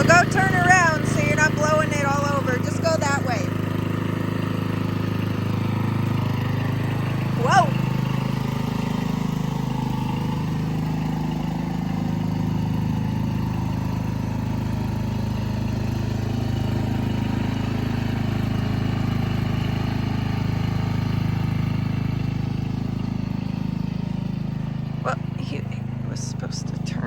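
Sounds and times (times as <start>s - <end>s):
riding lawn mower engine: 0.0s - 27.0s.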